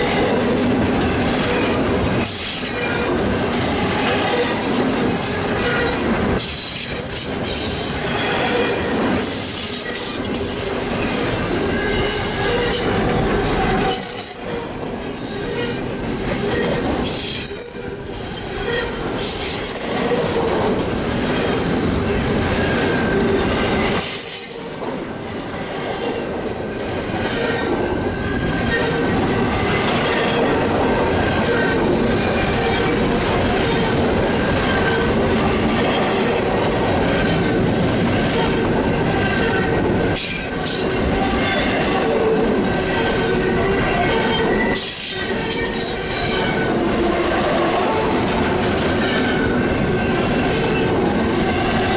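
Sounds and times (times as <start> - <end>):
freight train rumble and clatter: 0.0 - 51.9.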